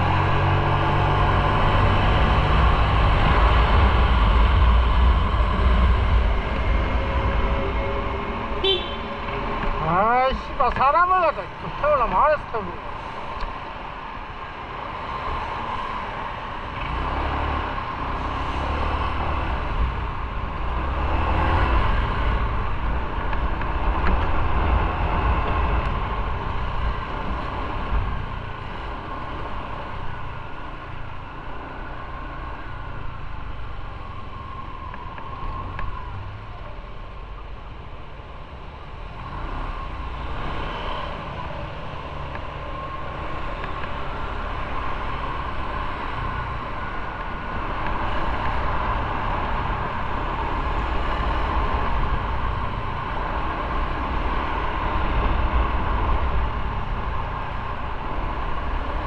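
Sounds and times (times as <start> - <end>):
motorcycle engine and road rumble: 0.0 - 59.0.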